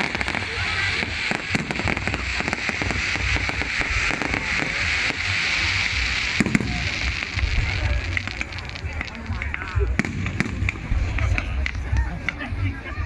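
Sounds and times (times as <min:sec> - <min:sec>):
firework bang: 0:00.0 - 0:11.5
steady hiss: 0:00.0 - 0:12.9
fireworks crackling: 0:00.0 - 0:13.0.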